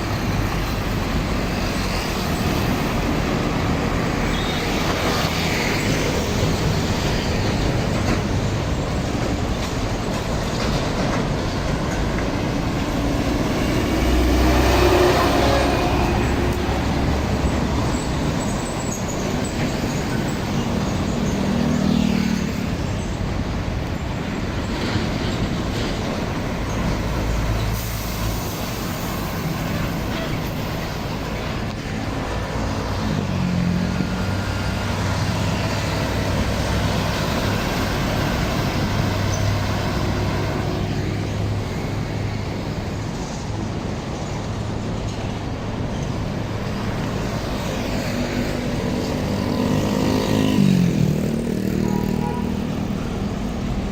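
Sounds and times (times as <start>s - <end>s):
engine and tyre noise: 0.0s - 53.9s
heavy trucks passing: 0.0s - 53.9s.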